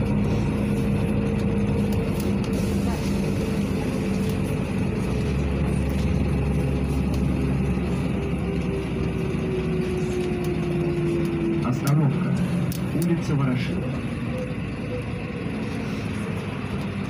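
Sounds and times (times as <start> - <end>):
bus engine and road rumble: 0.0 - 17.0
drivetrain whine: 0.0 - 17.0.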